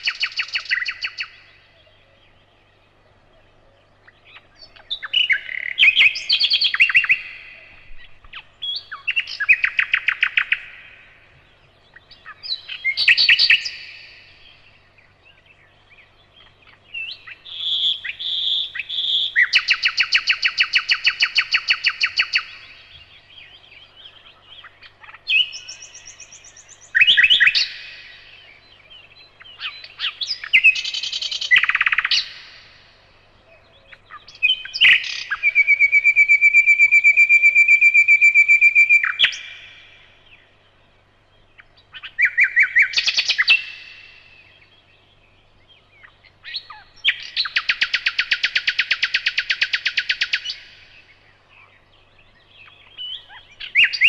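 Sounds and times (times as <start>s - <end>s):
nightingale singing: 0.0s - 54.0s.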